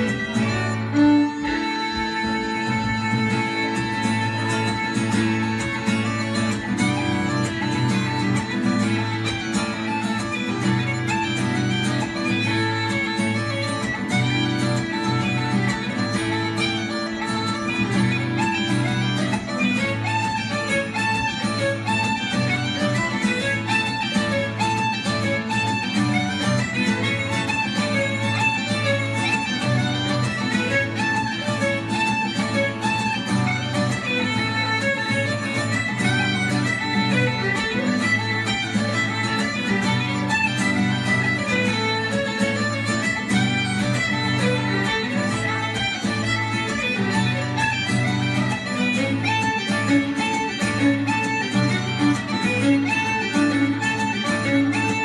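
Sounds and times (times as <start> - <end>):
acoustic guitar accompaniment: 0.0 - 55.0
fiddle melody: 0.0 - 55.0.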